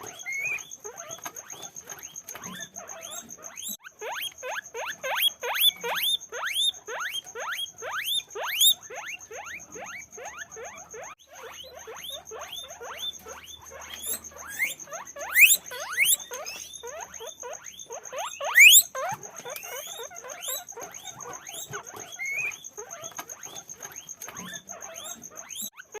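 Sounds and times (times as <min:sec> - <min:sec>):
guinea pigs squeaking: 0:00.0 - 0:26.0.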